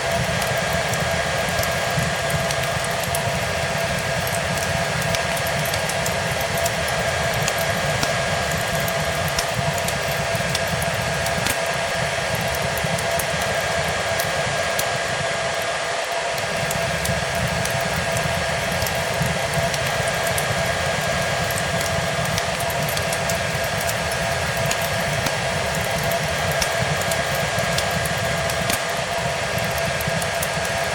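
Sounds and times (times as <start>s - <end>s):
hair dryer blowing: 0.0s - 30.9s
wood fire crackles: 0.0s - 30.9s.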